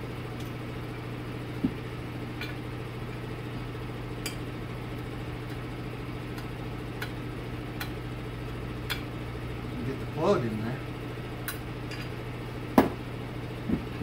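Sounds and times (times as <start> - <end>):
low hum of shop machinery: 0.0 - 14.0.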